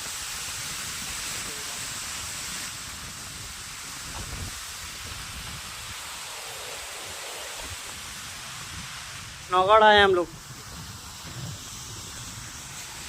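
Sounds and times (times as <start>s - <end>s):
even outdoor hiss: 0.0s - 13.0s.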